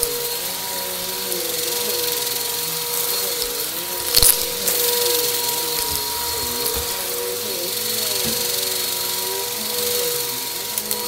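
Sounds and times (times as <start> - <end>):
debris crackling in vacuum: 0.0 - 11.0
vacuum cleaner motor whine: 0.0 - 11.0.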